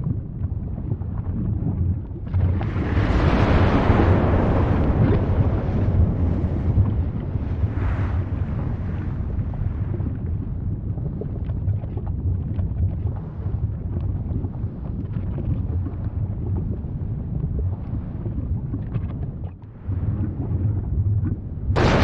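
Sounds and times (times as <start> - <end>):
volcano rumbling: 0.0 - 18.8, 19.4 - 22.0
crackles and pops: 0.0 - 22.0.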